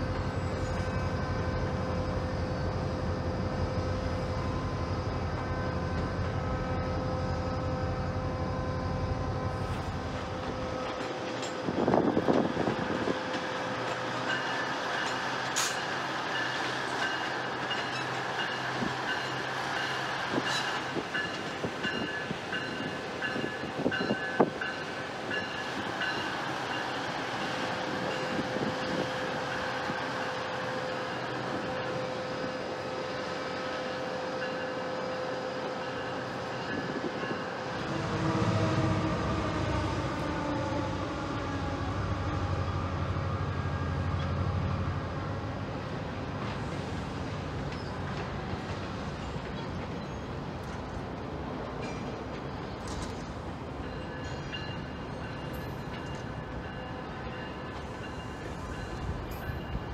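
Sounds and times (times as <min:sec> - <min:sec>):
diesel train engine hum: 0:00.0 - 0:59.9.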